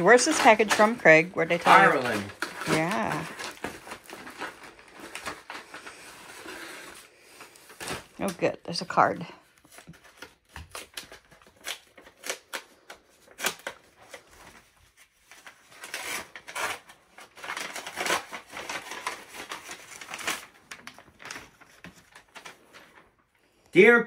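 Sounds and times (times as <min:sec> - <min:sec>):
paper envelope tearing and rustling: 0:00.0 - 0:23.1.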